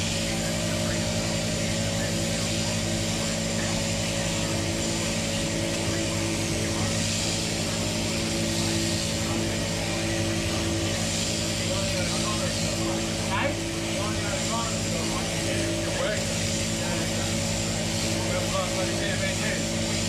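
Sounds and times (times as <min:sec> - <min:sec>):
electric shears humming: 0:00.0 - 0:20.0.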